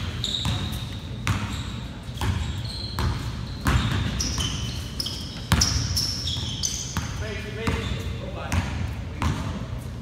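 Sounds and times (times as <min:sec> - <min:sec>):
basketball bouncing on wood floor: 0:00.0 - 0:04.7, 0:05.3 - 0:09.6
sneaker squeaks: 0:00.0 - 0:10.0.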